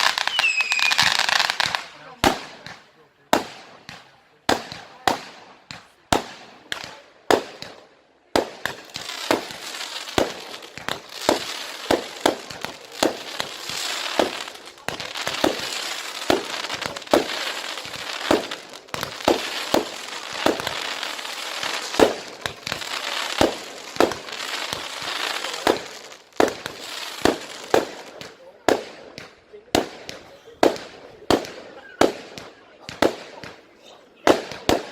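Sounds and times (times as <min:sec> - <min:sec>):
fireworks bangs: 0:00.0 - 0:34.9
fireworks crackling hiss: 0:00.0 - 0:34.9.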